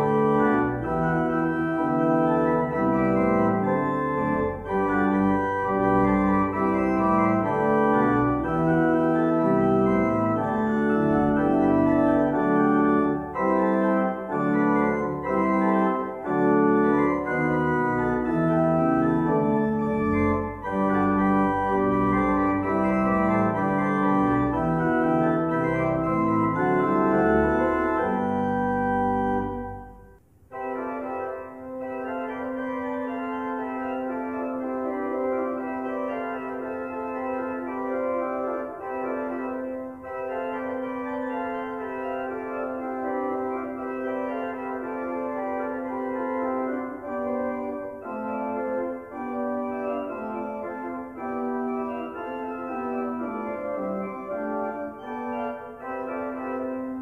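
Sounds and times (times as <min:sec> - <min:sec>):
church pipe organ playing: 0:00.0 - 0:57.0.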